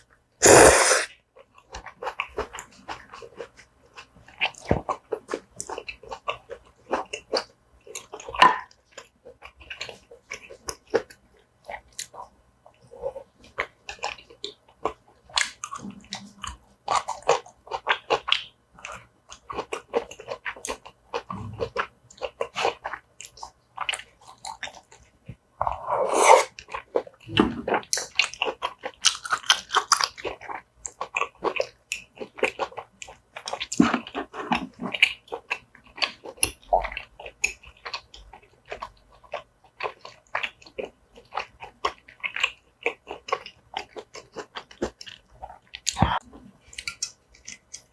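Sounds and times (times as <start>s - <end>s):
wet chewing and smacking: 1.3s - 25.9s, 26.5s - 47.9s.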